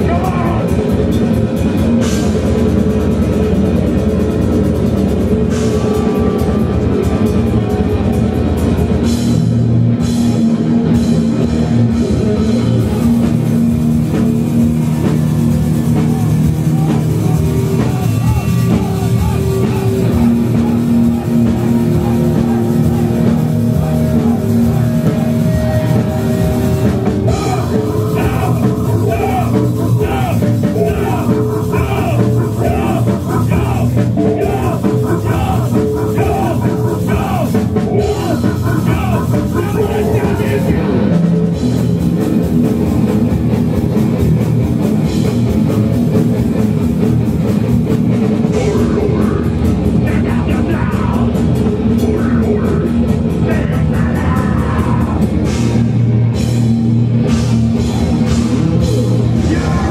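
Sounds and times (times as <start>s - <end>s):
drum kit: 0.0s - 59.9s
electric guitar: 0.0s - 59.9s
rock band playing: 0.0s - 59.9s.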